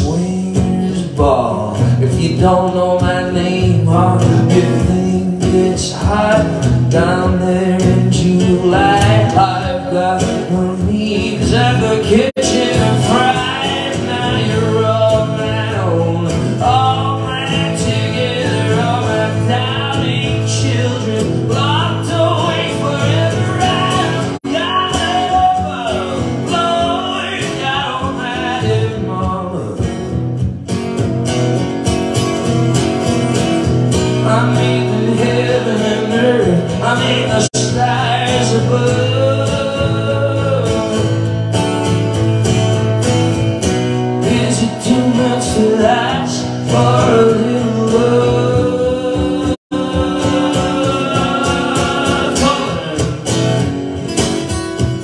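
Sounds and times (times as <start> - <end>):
person singing: 0.0 - 29.9, 34.2 - 41.2, 44.2 - 53.3
acoustic guitars: 0.0 - 55.0.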